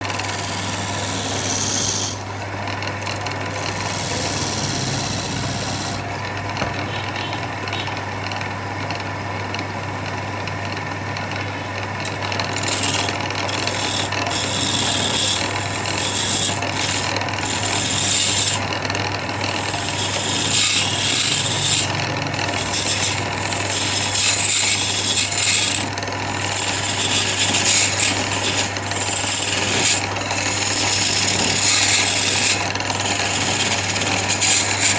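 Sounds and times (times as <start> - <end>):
wood rasping: 0.0 - 2.2, 3.0 - 6.0, 12.0 - 34.9.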